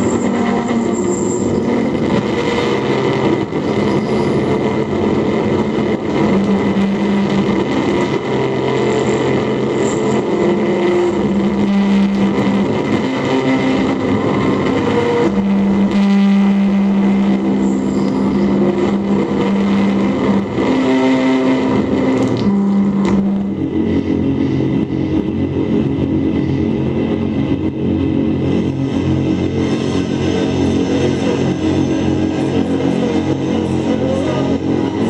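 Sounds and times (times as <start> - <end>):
electronic noise music: 0.0 - 35.0
strong low drone: 0.0 - 35.0.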